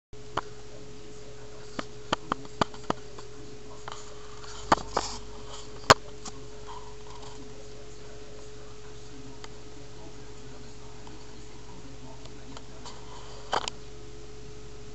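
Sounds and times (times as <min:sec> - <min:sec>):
steady electrical hum: 0:00.2 - 0:14.9.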